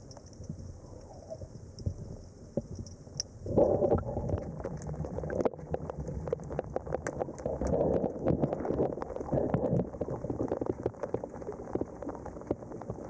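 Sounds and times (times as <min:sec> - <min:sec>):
underwater bubbles gurgling: 0:00.0 - 0:13.0.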